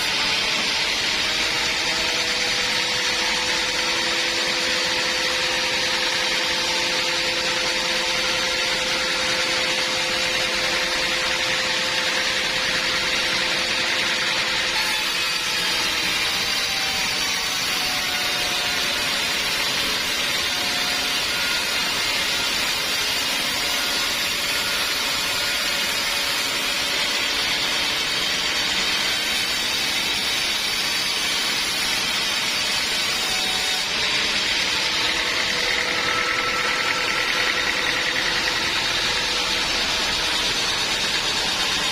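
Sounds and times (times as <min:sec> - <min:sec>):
band sawmill running: 0:00.0 - 0:41.9.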